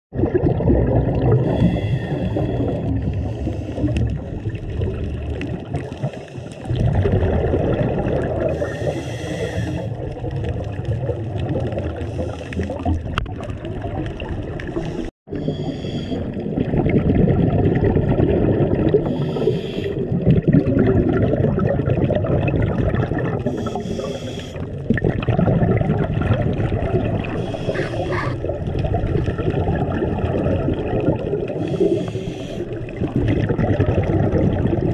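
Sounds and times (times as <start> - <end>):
air bubbles gurgling underwater: 0.1 - 34.9
low rumble of moving water: 0.1 - 34.9.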